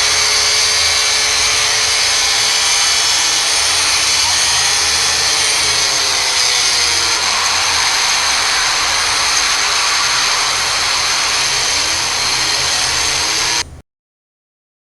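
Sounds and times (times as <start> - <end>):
distorted alarm hiss with high tones: 0.0 - 13.7.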